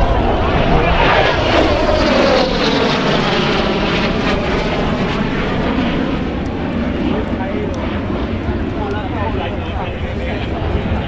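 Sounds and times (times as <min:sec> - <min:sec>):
fighter jet roaring past: 0:00.0 - 0:11.0.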